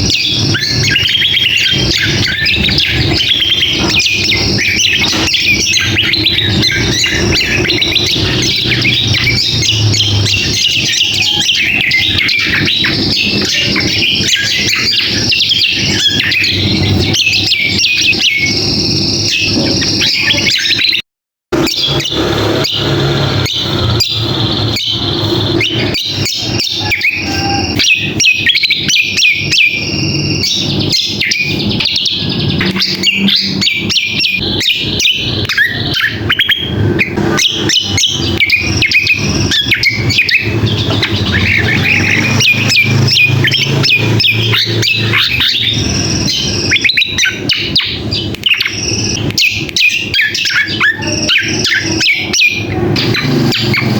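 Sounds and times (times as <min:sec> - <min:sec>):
bird chirping and chattering: 0:00.0 - 0:21.0, 0:21.6 - 0:53.9.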